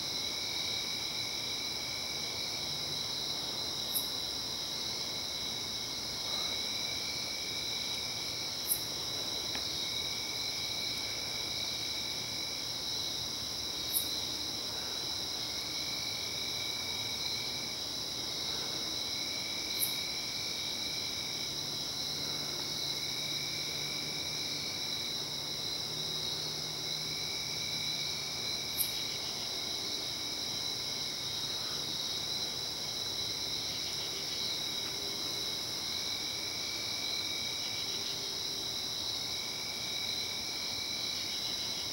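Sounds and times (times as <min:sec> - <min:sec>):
high insect trill: 0:00.0 - 0:41.9
lower insect trill: 0:00.0 - 0:41.9.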